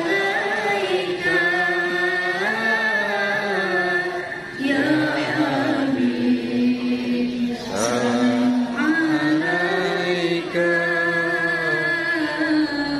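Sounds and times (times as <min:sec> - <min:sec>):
woman chanting through microphone: 0:00.0 - 0:12.9.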